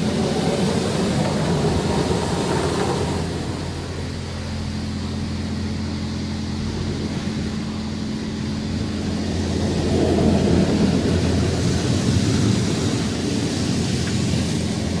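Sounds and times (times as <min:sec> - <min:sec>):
car wash motor hum: 0:00.0 - 0:15.0
water spray hiss: 0:00.0 - 0:15.0.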